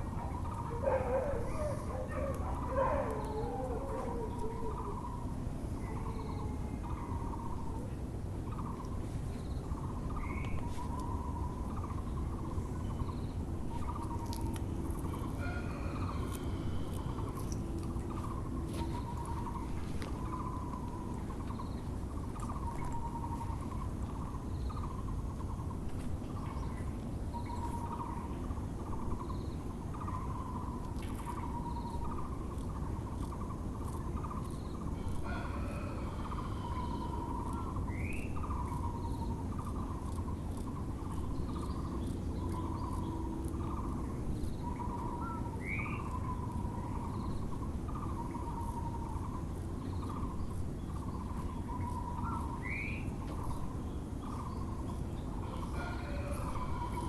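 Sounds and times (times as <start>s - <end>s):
low background rumble: 0.0s - 57.0s.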